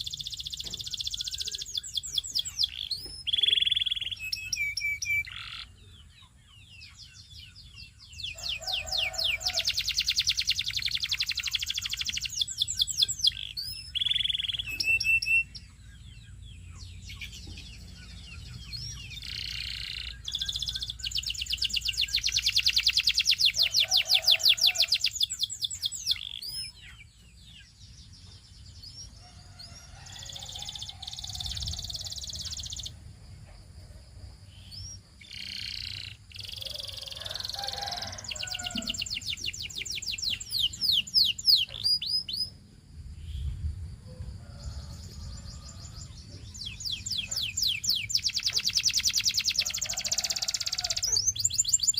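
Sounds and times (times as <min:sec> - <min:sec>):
canary singing trills: 0:00.0 - 0:43.6, 0:44.4 - 0:51.9.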